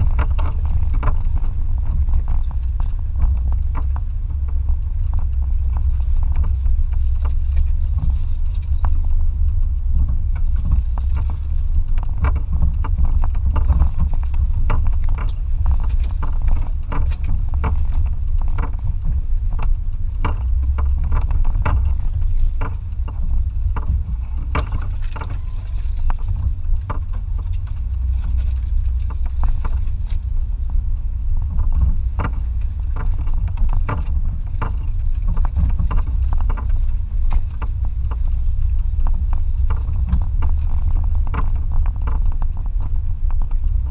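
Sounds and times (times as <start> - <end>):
pickup truck rumbling: 0.0 - 43.9
sharp knocks and rattles: 0.0 - 43.9.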